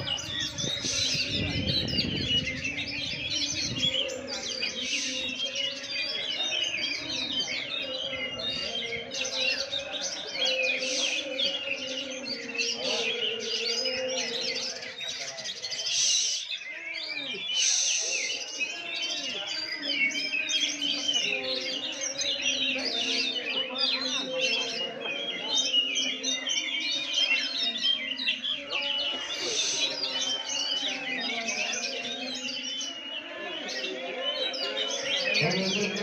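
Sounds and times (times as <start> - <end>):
songbirds singing: 0.0 - 36.0.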